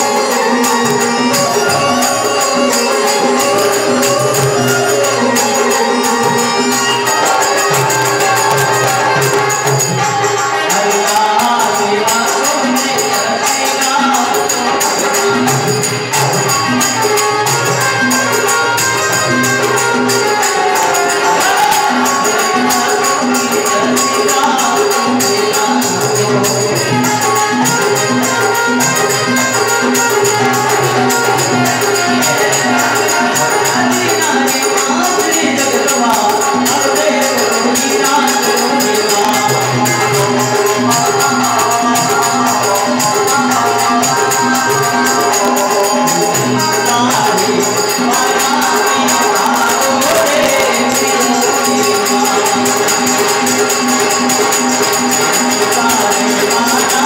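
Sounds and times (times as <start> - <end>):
hand drum: 0.0 - 57.0
harmonium: 0.0 - 57.0
jingling hand percussion: 0.0 - 57.0
keyboard: 0.0 - 57.0
man singing devotional song: 0.0 - 57.0.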